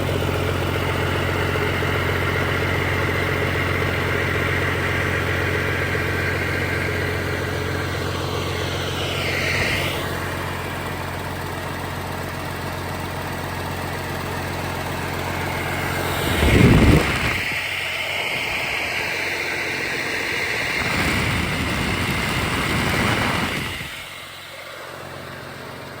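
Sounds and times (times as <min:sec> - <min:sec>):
engine surge: 0:00.0 - 0:12.7, 0:13.8 - 0:26.0
diesel engine idling: 0:00.0 - 0:26.0.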